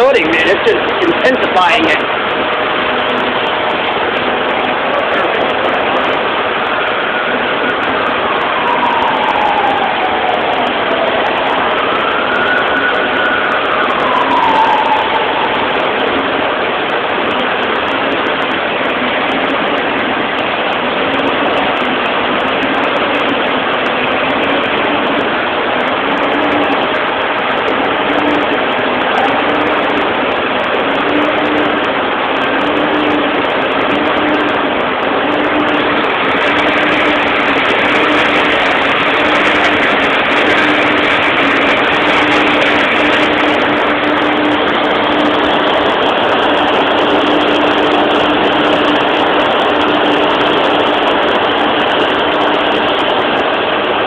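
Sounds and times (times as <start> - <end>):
fire truck engines running: 0.0 - 54.0
low pulsing tone: 0.0 - 54.0.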